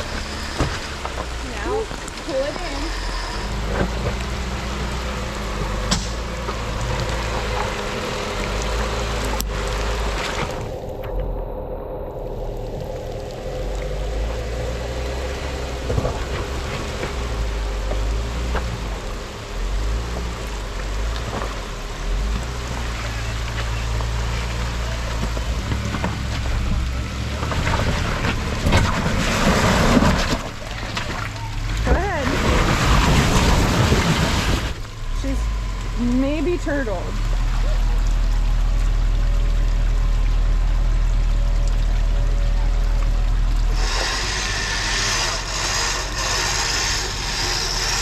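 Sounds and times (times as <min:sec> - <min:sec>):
steady rain: 0:00.0 - 0:48.0
vehicle engine running low: 0:00.0 - 0:48.0
water splashing and sloshing: 0:00.0 - 0:48.0.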